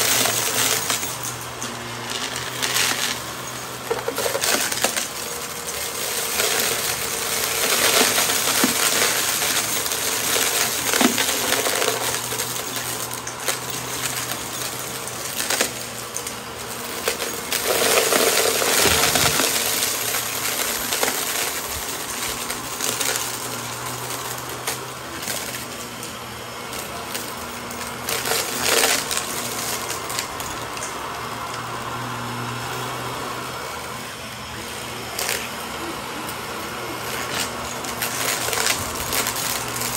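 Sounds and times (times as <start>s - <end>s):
debris rattling into vacuum: 0.0s - 39.9s
vacuum cleaner motor humming: 0.0s - 39.9s.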